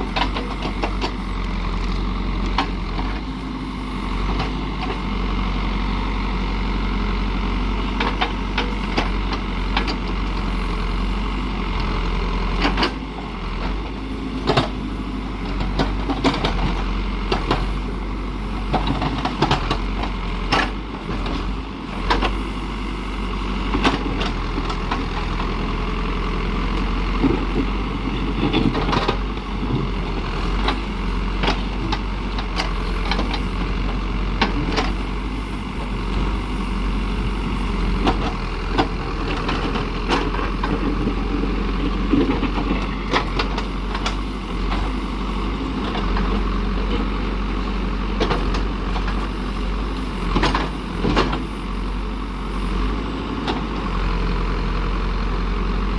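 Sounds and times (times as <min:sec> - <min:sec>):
diesel machine running: 0:00.0 - 0:55.9.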